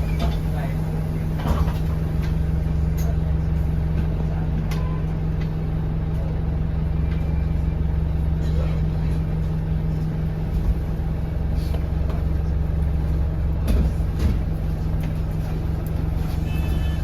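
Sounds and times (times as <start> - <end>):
bus engine and road drone: 0.0 - 17.0.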